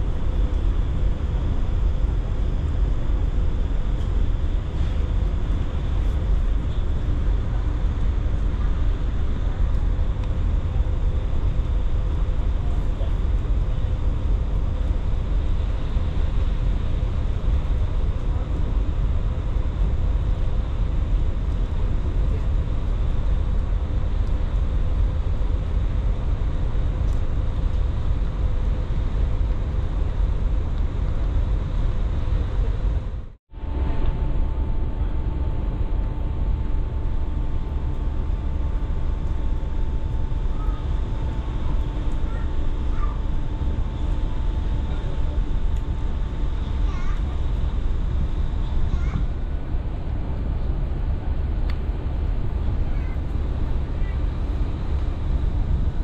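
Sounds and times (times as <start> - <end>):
ferry engine rumble and hum: 0.0 - 56.0.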